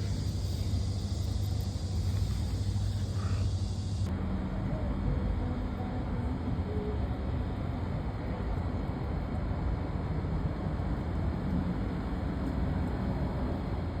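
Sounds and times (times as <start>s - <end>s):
steady low rumbling: 0.0s - 14.0s.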